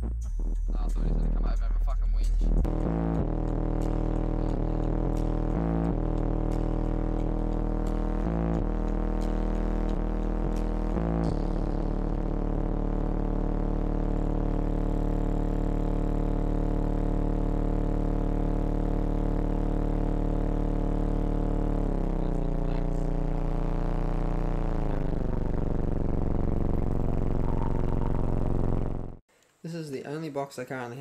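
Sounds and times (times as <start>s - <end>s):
deep droning bass tone: 0.0s - 29.2s.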